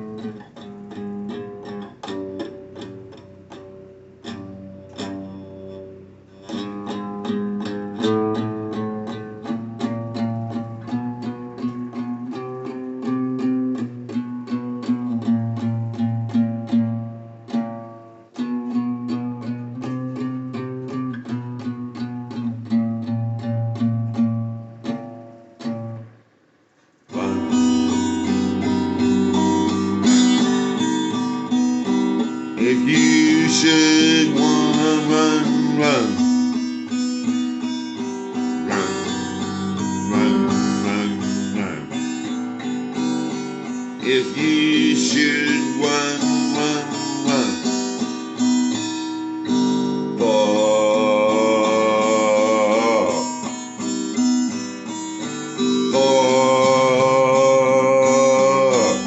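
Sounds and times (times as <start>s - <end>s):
guitar picking and strumming: 0.0s - 59.0s.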